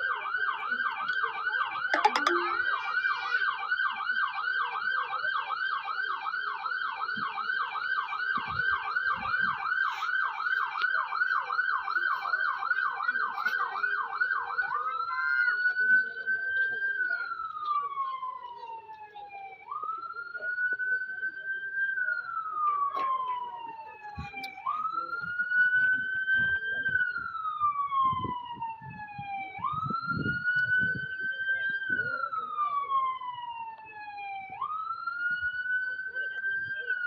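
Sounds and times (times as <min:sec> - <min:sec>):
wailing siren: 0:00.0 - 0:37.0.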